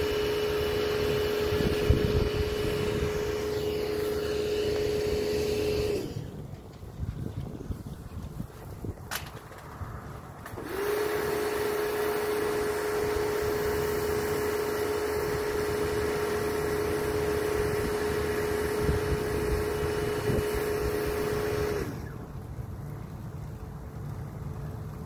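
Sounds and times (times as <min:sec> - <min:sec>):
motor machine whining and blowing: 0:00.0 - 0:22.5.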